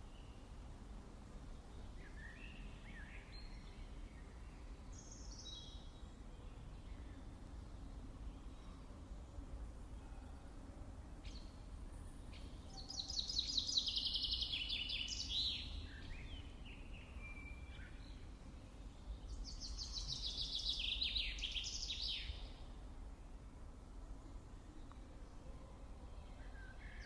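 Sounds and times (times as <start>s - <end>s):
songbird singing: 0.0s - 0.8s, 1.4s - 22.9s, 23.9s - 27.0s.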